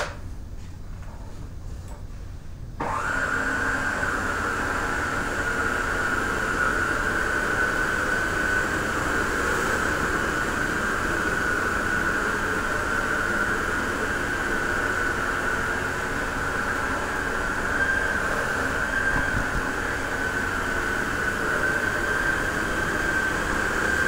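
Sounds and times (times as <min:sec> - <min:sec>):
vacuum cleaner running: 0:02.8 - 0:24.0.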